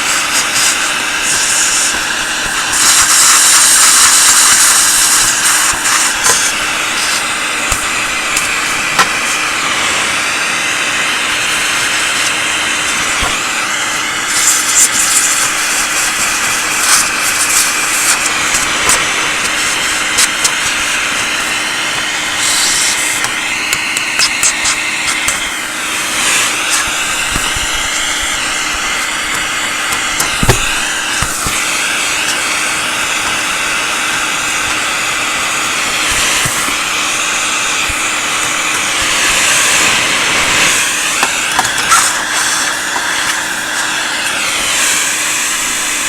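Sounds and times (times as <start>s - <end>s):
vacuum cleaner running: 0.0s - 46.0s.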